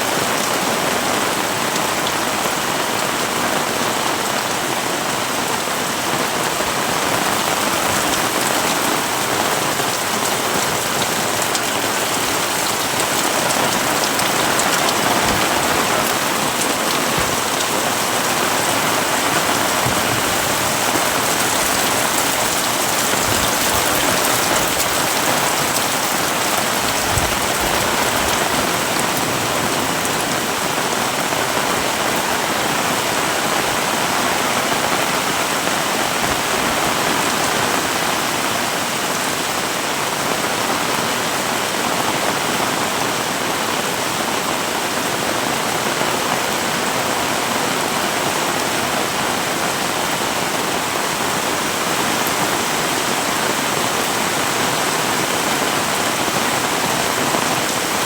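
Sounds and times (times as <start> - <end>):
heavy rain: 0.0 - 58.0
running water: 0.0 - 58.0.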